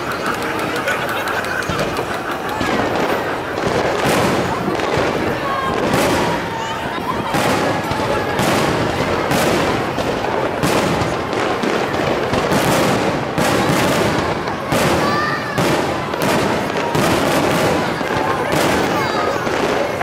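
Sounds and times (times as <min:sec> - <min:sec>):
firework shells bursting: 0:00.0 - 0:20.0
rumble and crackle of fireworks: 0:00.0 - 0:20.0.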